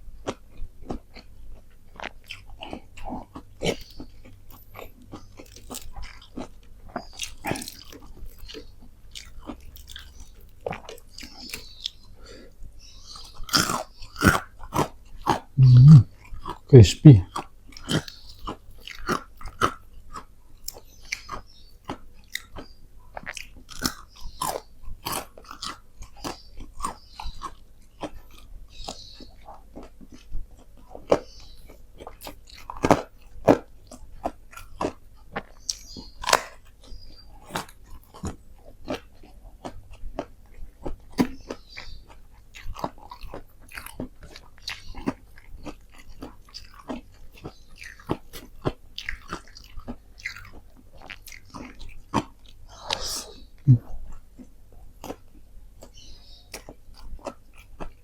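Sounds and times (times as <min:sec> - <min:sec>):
person chewing crispy chicken: 0:00.0 - 0:58.0.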